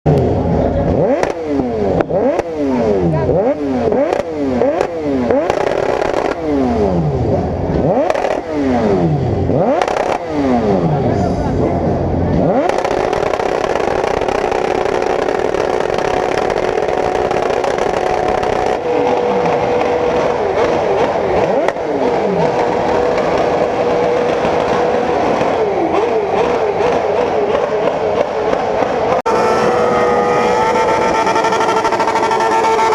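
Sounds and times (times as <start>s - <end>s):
motorcycle engines revving: 0.1s - 32.9s.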